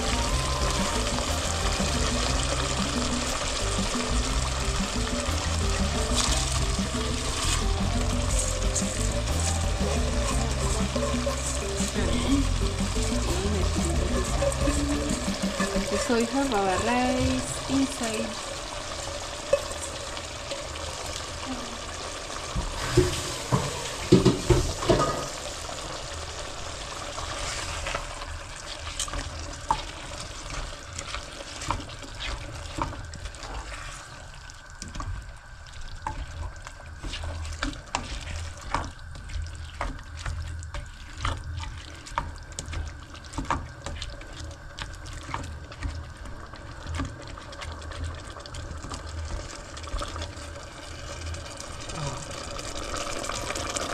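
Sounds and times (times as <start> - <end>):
water splashing into pot: 0.0 - 53.9.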